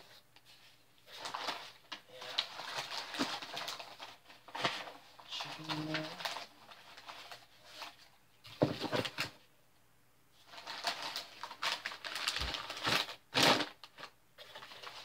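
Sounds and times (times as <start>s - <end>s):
packing paper crinkling: 0.0s - 9.4s, 10.4s - 15.0s.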